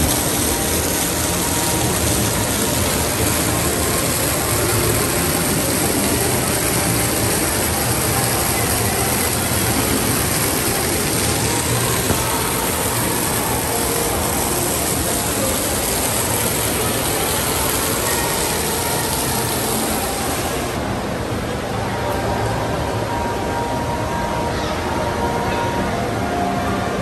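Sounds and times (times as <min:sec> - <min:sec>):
fountain water splashing into basin: 0:00.0 - 0:24.3.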